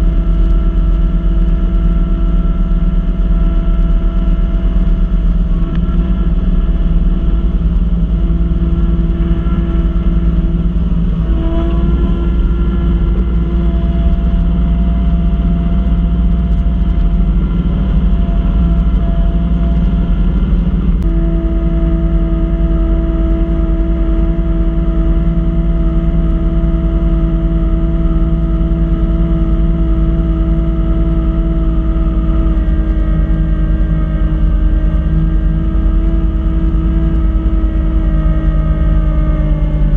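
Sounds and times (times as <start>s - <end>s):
snow blower mechanical whine: 0.0s - 39.9s
tractor diesel engine running: 0.0s - 39.9s.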